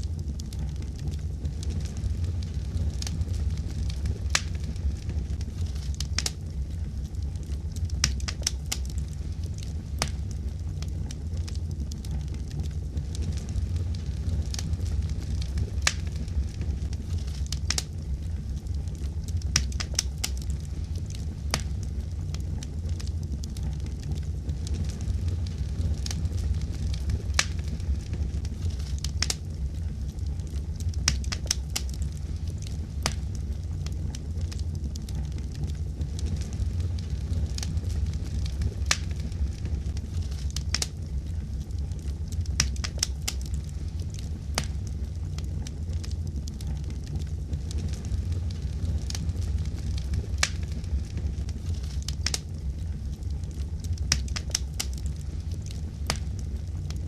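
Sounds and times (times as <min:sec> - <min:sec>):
fire crackling: 0:00.0 - 0:57.0
low rumble of flames: 0:00.0 - 0:57.0
sharp pops and snaps: 0:00.0 - 0:57.0.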